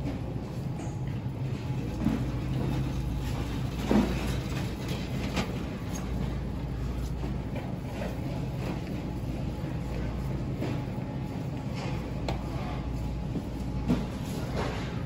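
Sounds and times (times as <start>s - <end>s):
shopping cart rolling on concrete: 1.4s - 15.0s.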